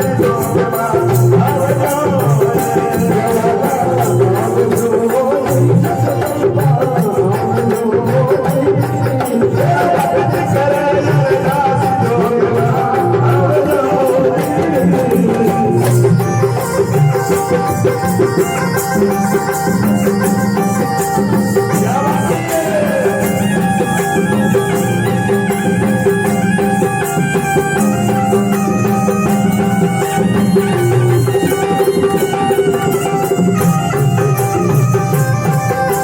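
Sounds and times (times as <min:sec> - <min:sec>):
folk drumming: 0:00.0 - 0:36.0.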